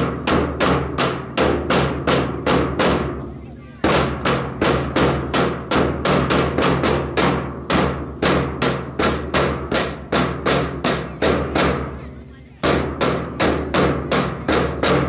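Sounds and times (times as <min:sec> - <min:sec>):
marching drum beating: 0:00.0 - 0:15.0.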